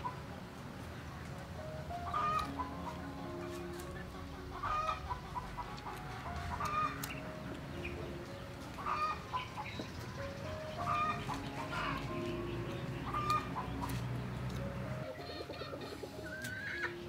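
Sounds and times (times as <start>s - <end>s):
soft background music: 0.0s - 17.0s
chickens clucking: 1.9s - 17.0s.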